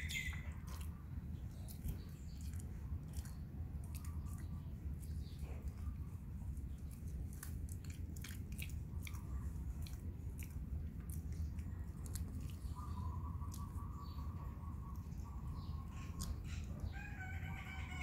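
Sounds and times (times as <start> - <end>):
steady low rumble: 0.0 - 18.0
dog chewing grass: 0.1 - 16.8.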